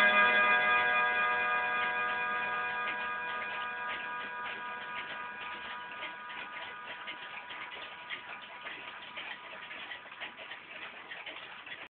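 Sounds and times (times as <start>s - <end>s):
pendulum wall clock ticking: 0.0s - 11.9s.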